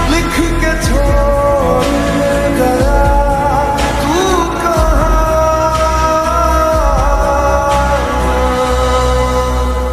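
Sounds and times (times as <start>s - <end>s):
steady deep bass: 0.0s - 9.9s.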